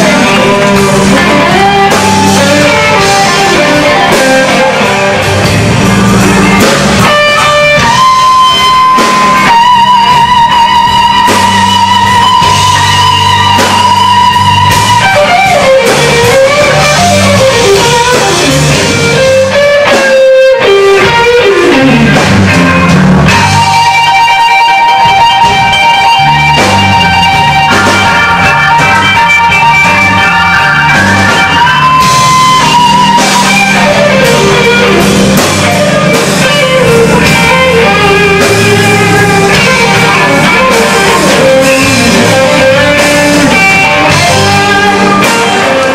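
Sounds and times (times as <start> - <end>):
bass line: 0.0 - 45.9
electric blues band playing live: 0.0 - 45.9
lead electric guitar sustained notes: 0.0 - 45.9.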